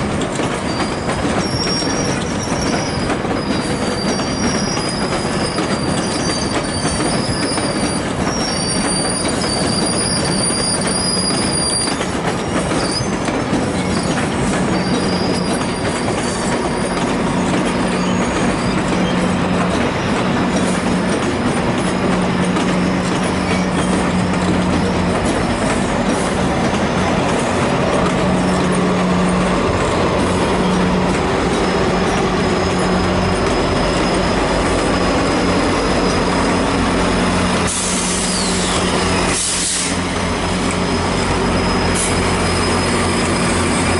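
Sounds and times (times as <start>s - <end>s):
diesel locomotive rumble: 0.0s - 43.9s
high wheel squeal: 0.0s - 43.9s
train wheels rumbling: 0.0s - 43.9s.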